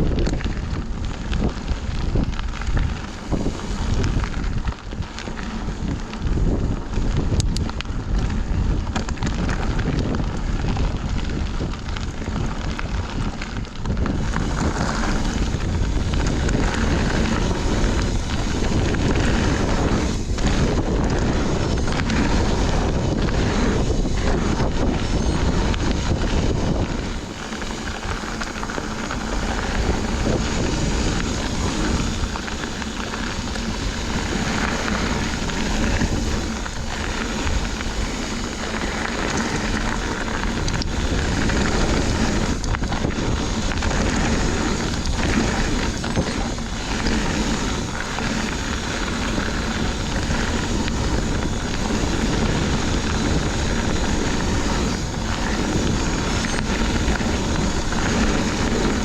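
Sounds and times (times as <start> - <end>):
bike clicks and rattles: 0.0 - 59.0
bike tyres rolling on dirt: 0.0 - 59.0
wind on microphone: 0.0 - 59.0.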